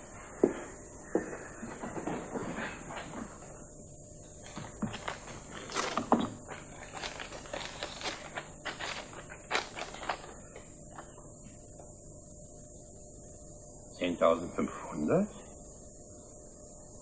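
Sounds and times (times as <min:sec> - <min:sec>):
film soundtrack hiss: 0:00.0 - 0:17.0.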